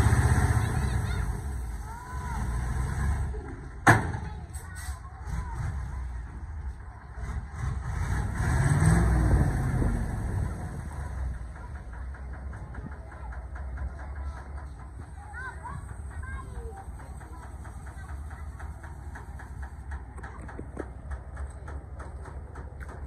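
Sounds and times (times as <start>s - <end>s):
dump truck diesel engine: 0.0s - 23.0s.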